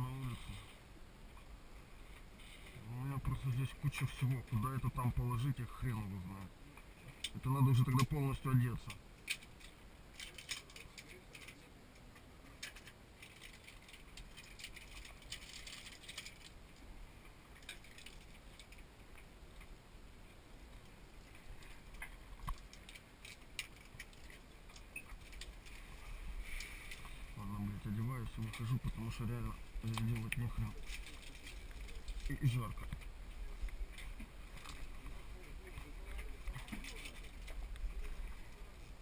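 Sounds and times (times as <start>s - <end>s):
diving gear rustling and clicking: 6.8s - 19.8s, 20.7s - 39.0s.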